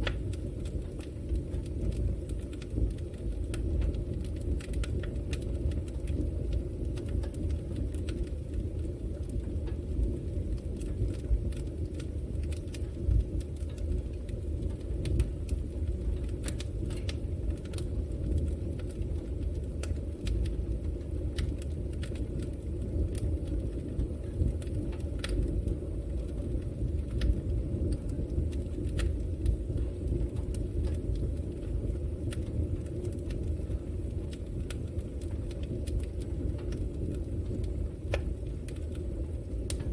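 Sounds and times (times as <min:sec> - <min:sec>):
fire burning in a fireplace: 0:00.0 - 0:39.9
fire crackling and popping: 0:00.0 - 0:39.9.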